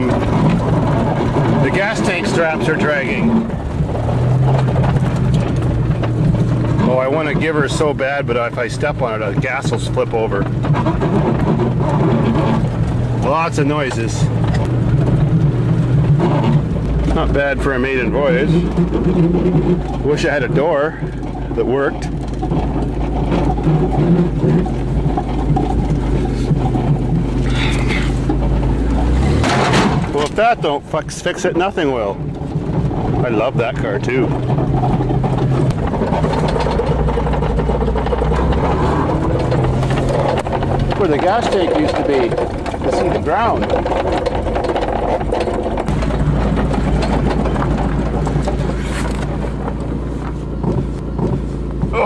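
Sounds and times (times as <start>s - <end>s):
car engine running: 0.0s - 52.0s
fine rattling: 0.0s - 52.0s.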